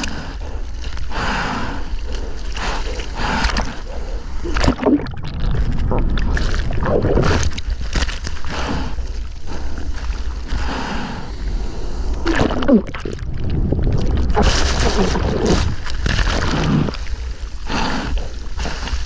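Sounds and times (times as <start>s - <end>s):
low rumble of moving water: 0.0s - 19.0s
sea water splashing: 1.9s - 19.0s.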